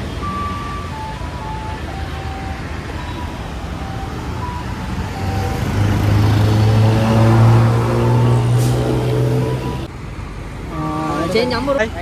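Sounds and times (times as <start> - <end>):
city road traffic: 0.0 - 12.0
heavy vehicle engine hum: 0.0 - 12.0.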